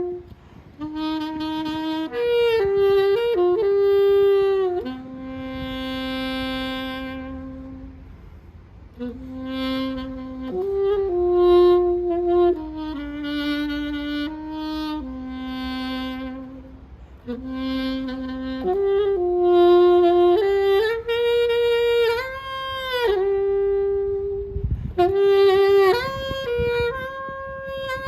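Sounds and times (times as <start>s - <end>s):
saxophone slow melody: 0.0s - 28.0s.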